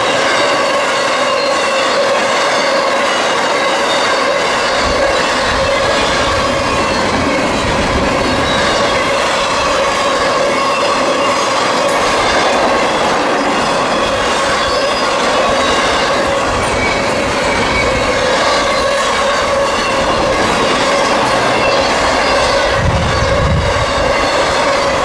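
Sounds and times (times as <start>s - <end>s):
freight train wheels clattering on rail: 0.0s - 25.0s
train wheels squealing: 0.0s - 25.0s.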